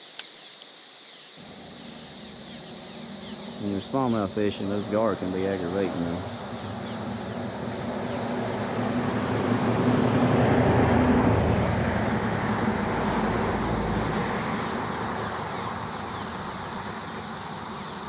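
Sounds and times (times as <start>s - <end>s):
vehicle passing by: 1.4s - 18.0s.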